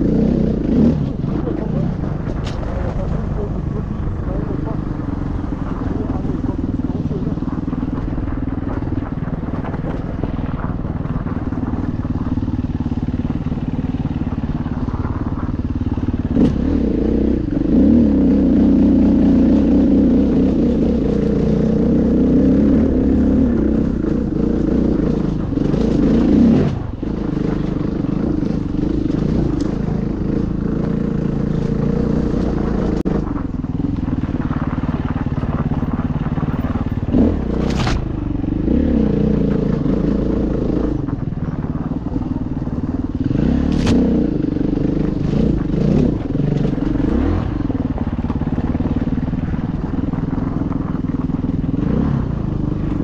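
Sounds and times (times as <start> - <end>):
motorcycle engine under load: 0.0 - 53.0.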